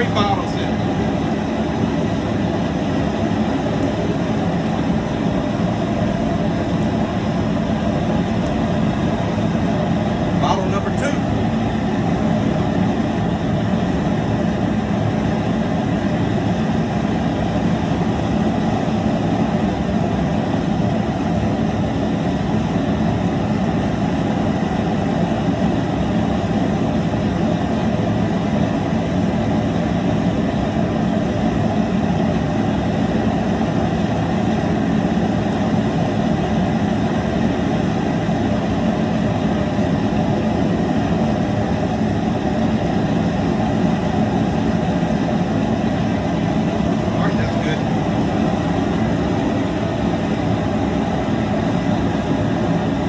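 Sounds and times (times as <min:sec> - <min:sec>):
propane burner rushing: 0:00.0 - 0:53.0.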